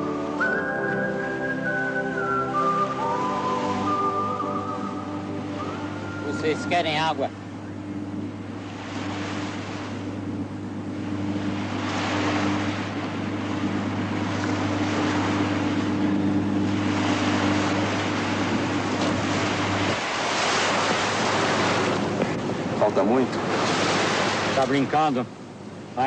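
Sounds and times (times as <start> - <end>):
low hum: 0.0 - 26.0
sea waves: 0.0 - 26.0
wind: 0.0 - 26.0.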